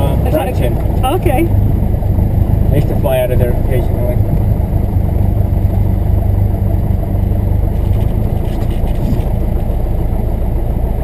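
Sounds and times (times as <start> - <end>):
propeller plane engine running: 0.0 - 11.0.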